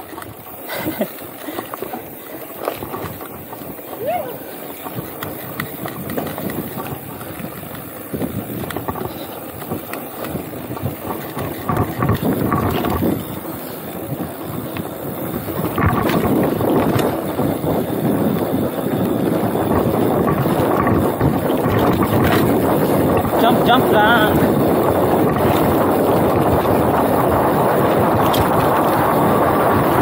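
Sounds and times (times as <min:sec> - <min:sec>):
bike knocks and rattles: 0:00.0 - 0:03.9, 0:04.7 - 0:30.0
wind buffeting microphone: 0:00.0 - 0:30.0.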